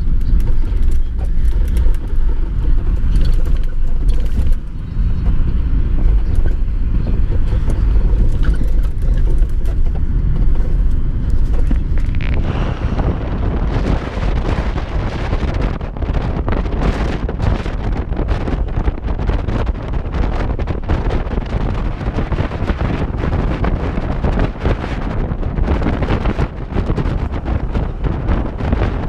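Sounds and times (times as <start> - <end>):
road and engine rumble: 0.0 - 29.0
wind noise rushing: 0.0 - 29.0.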